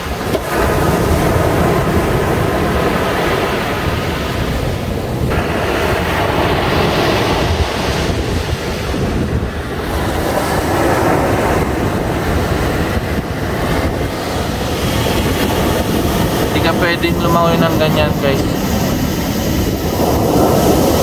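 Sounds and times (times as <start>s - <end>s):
waves breaking on a beach: 0.0s - 21.0s
wind buffeting microphone: 0.0s - 21.0s.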